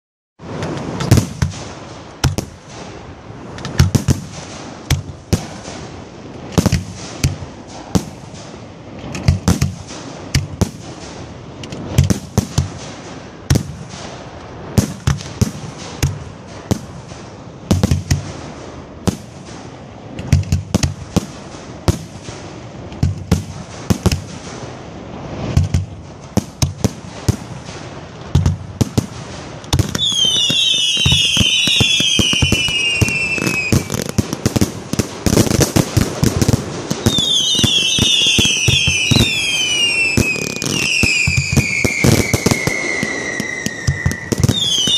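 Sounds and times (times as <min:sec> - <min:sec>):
firework shells booming: 0:00.4 - 0:44.9
fireworks crackling: 0:00.4 - 0:44.9
whistling rockets: 0:00.5 - 0:44.9.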